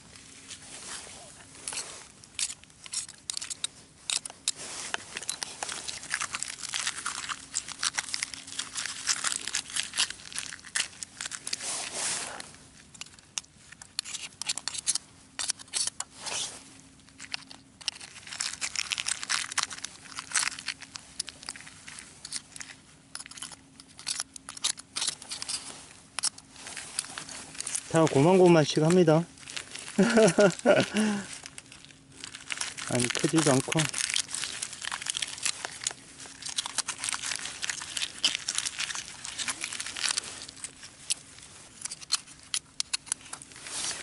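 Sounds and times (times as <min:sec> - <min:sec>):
shells clicking scraping and crunching: 0:01.6 - 0:11.6, 0:12.8 - 0:16.1, 0:17.0 - 0:44.0.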